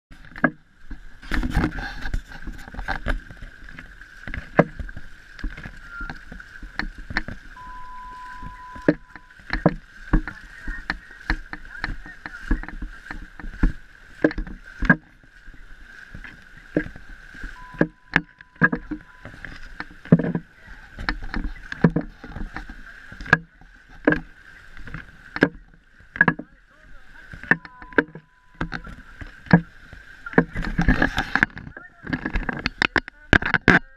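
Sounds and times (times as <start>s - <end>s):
hiss of water and wind: 0.1s - 33.6s
feet splashing in shallow water: 0.1s - 33.9s.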